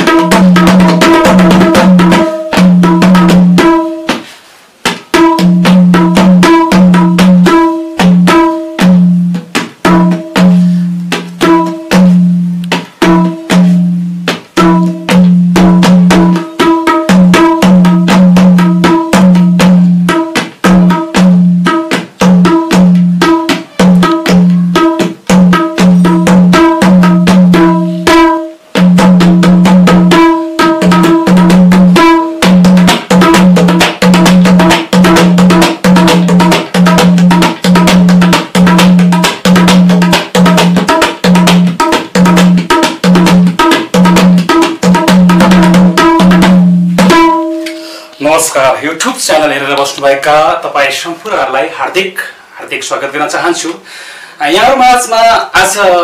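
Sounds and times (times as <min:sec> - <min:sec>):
two-headed hand drum playing: 0:00.0 - 0:48.5.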